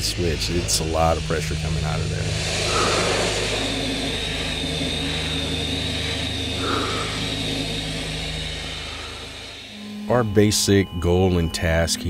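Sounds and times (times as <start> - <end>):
sandblaster rushing hiss: 0.0 - 10.0
low hum: 0.0 - 12.0
thin whistle-like tone: 0.0 - 12.0.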